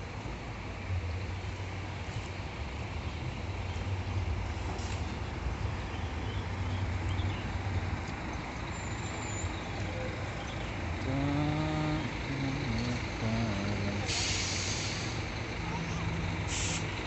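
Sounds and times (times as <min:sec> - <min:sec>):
diesel bus engine idling: 0:00.0 - 0:17.0.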